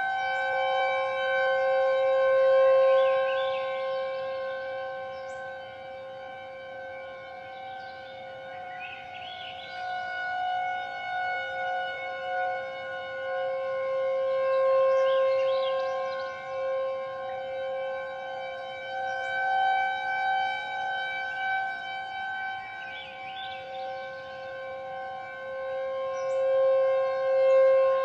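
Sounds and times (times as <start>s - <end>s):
outdoor warning siren steady tone: 0.0s - 28.0s.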